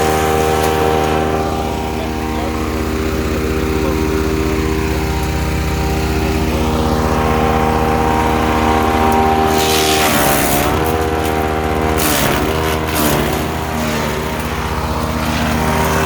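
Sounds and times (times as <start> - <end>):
branches crackling in chipper: 0.0 - 16.0
woodchipper engine running: 0.0 - 16.0.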